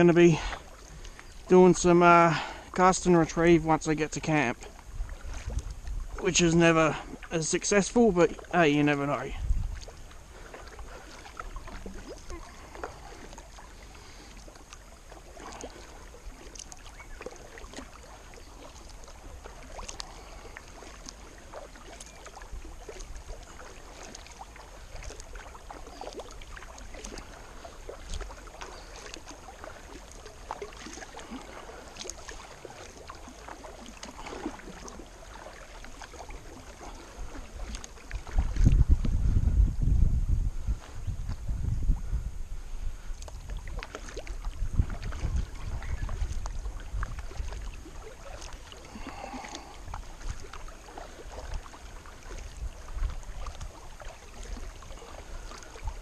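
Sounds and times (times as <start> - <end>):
kayak paddle splashing: 0.0 - 56.0.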